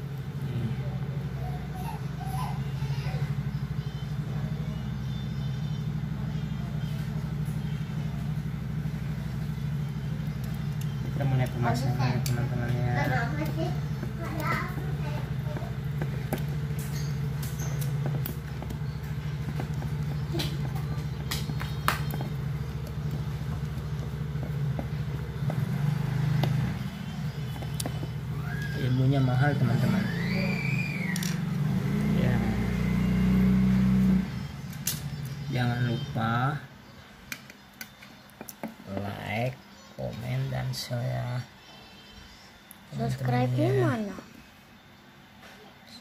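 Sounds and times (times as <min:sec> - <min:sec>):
low mechanical hum: 0:00.0 - 0:46.0.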